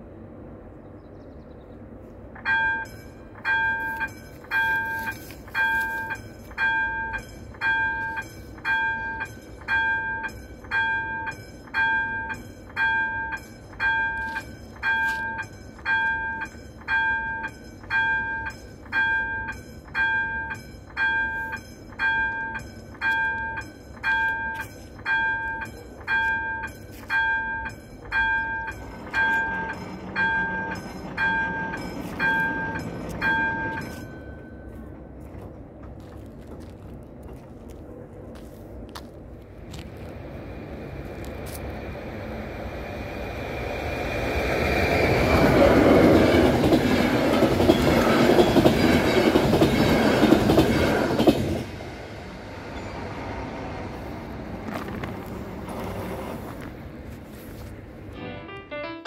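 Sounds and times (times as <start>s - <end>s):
low hum of barrier drive: 0.0s - 48.0s
level-crossing warning bell: 2.3s - 36.7s, 40.5s - 54.1s.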